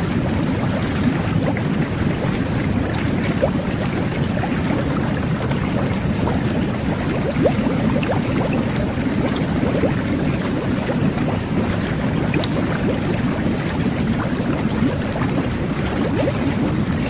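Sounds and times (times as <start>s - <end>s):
bath jets bubbling water: 0.0s - 17.0s.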